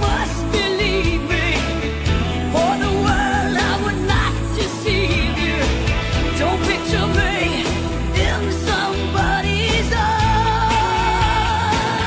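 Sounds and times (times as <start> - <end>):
pop song with singing and band: 0.0 - 12.0.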